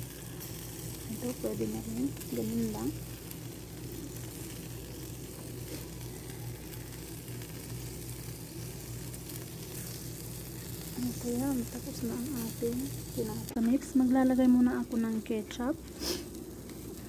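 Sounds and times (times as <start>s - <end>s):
burger patties sizzling on grill: 0.0s - 17.0s
steady low hum: 0.0s - 17.0s.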